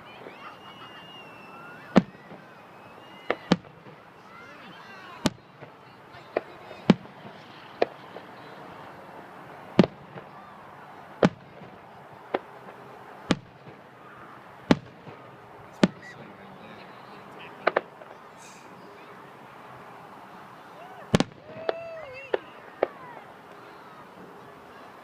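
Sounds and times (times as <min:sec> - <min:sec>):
fireworks bangs: 0:00.0 - 0:09.0, 0:09.7 - 0:18.6, 0:20.8 - 0:24.3.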